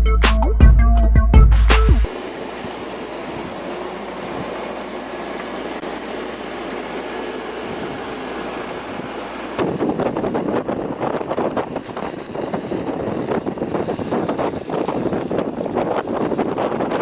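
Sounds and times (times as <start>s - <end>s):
large machine running: 2.0s - 17.0s.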